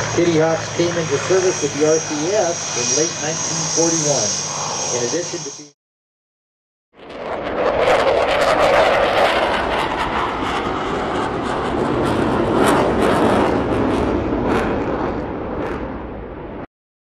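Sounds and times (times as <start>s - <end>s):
jet flyby crackling: 0.0s - 5.7s, 7.0s - 15.8s.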